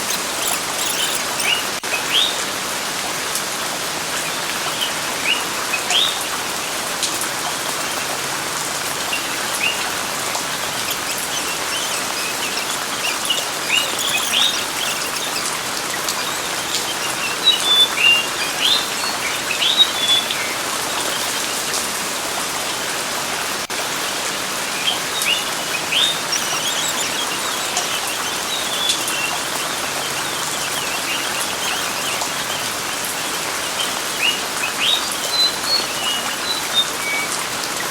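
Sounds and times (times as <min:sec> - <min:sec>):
birds chirping: 0:00.0 - 0:02.6, 0:03.5 - 0:37.9
steady rain: 0:00.0 - 0:37.9.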